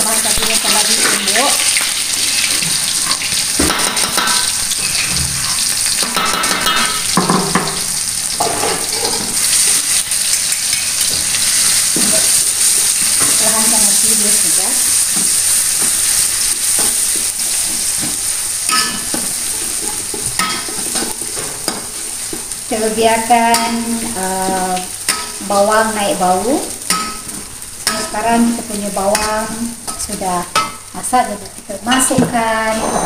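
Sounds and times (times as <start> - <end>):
paste sizzling in hot oil: 0.0 - 31.0.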